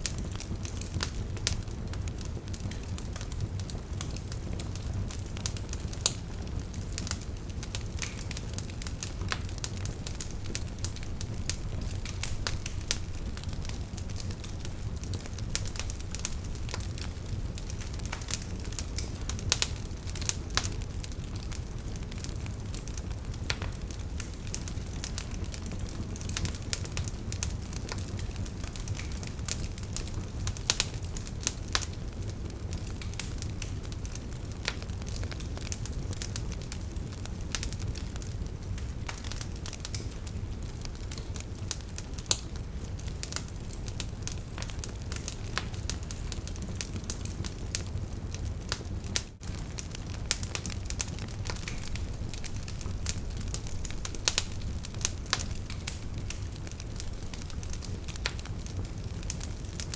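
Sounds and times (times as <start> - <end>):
campfire low rush: 0.0 - 59.9
firewood crackling and popping: 0.0 - 59.9.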